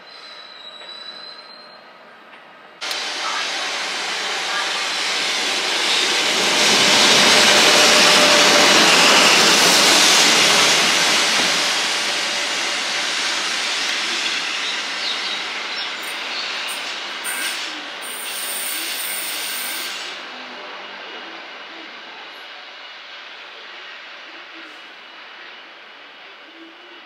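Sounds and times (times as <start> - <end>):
train wheels rumbling on rails: 2.3 - 26.9.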